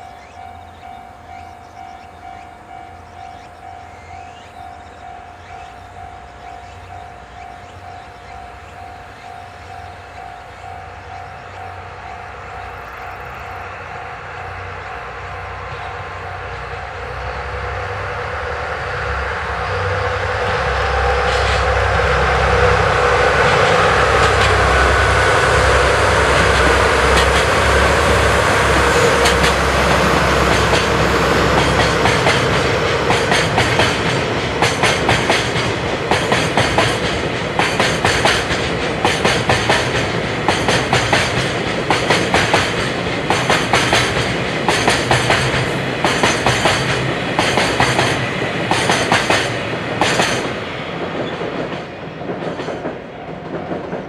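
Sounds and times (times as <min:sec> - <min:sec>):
diesel locomotive engines droning: 0:00.0 - 0:54.0
train wheels clacking over rail joints: 0:00.0 - 0:54.0.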